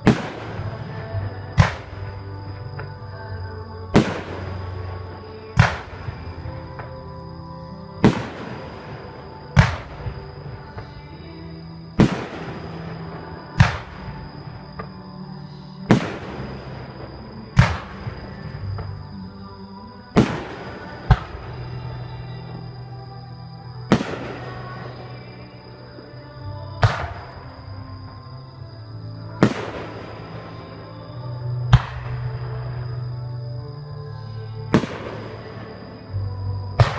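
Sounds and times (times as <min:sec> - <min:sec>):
music playing: 0:00.0 - 0:36.9.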